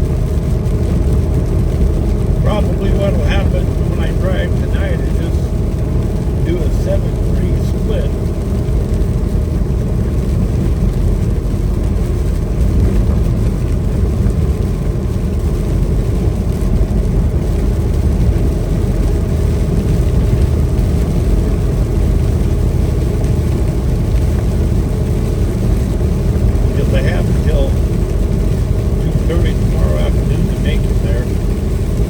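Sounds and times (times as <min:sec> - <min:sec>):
road and tyre noise: 0:00.0 - 0:32.0
truck engine drone: 0:00.0 - 0:32.0.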